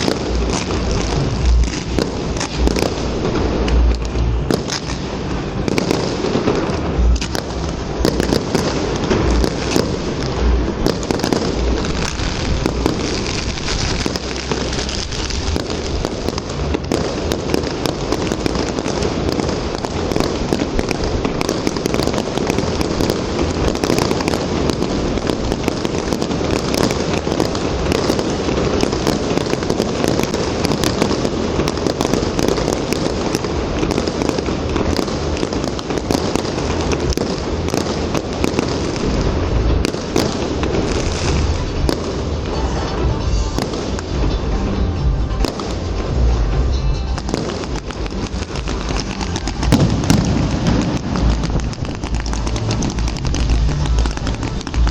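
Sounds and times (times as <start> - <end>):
fireworks crackling and popping: 0.0 - 54.9.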